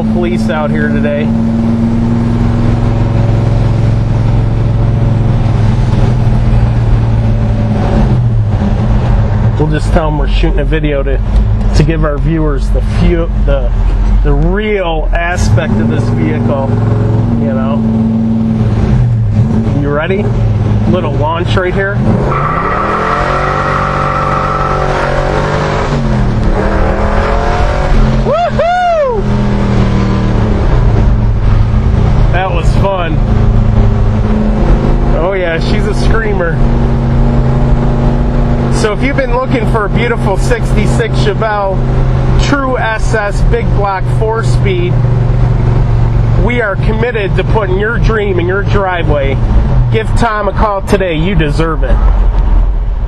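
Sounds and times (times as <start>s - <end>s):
car engine droning: 0.0s - 53.0s
road noise: 0.0s - 53.0s.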